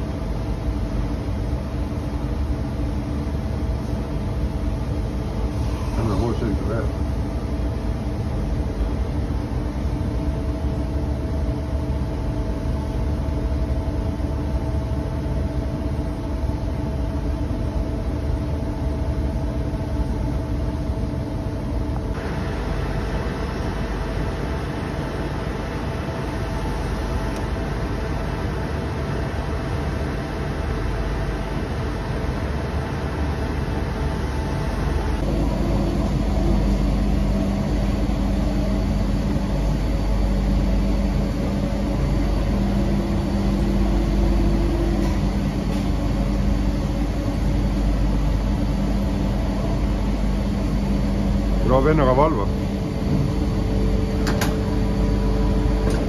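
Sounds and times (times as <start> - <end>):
lathe mechanical hum: 0.0 - 56.0.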